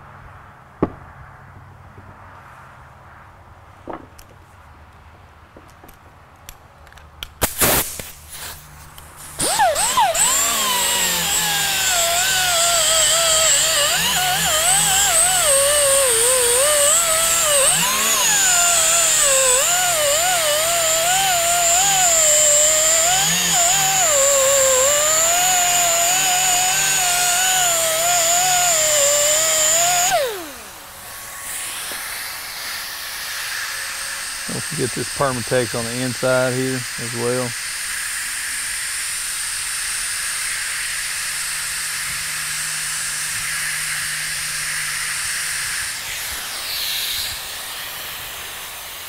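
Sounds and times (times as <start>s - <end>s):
pneumatic grinder whining: 9.2s - 49.0s.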